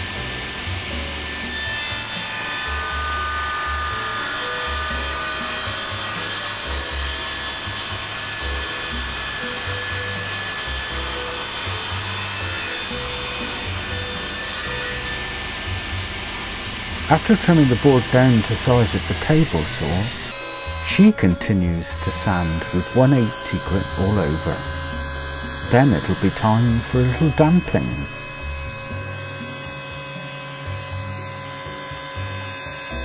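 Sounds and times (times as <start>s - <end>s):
table saw cutting wood: 0.0s - 33.0s.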